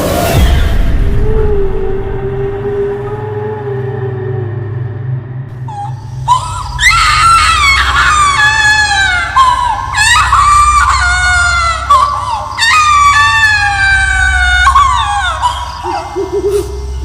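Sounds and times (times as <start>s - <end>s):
ghostly baby crying and screaming: 0.0s - 17.0s
steady low drone: 0.0s - 17.0s.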